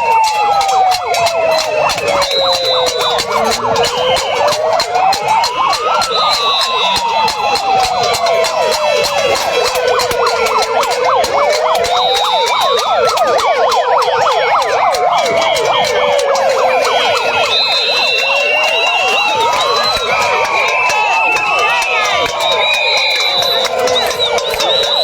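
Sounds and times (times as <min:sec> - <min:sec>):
many sirens wailing: 0:00.0 - 0:25.0
sharp clattering clicks: 0:00.0 - 0:25.0.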